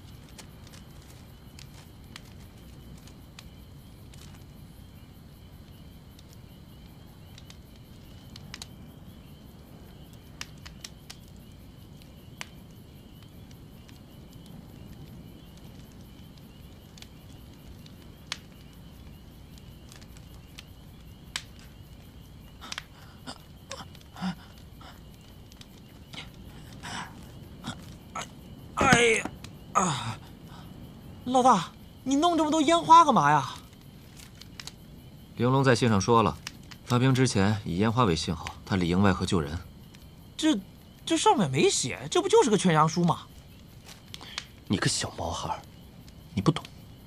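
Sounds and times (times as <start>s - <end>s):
faint insect trill: 0.0s - 47.0s
sharp crackles and clicks: 0.0s - 47.0s.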